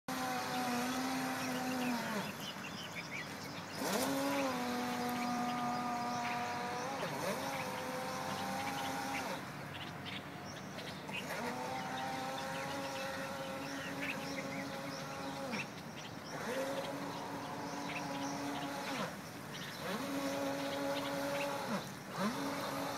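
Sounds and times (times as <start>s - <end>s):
electric motor whine: 0.1s - 9.9s, 10.8s - 22.9s
birds chirping faintly: 0.1s - 22.9s.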